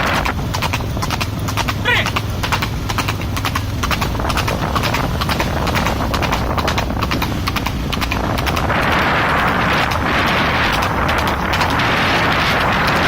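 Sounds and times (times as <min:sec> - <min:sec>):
horse hooves clip-clopping: 0:00.0 - 0:13.0
steady rushing noise: 0:00.0 - 0:13.0.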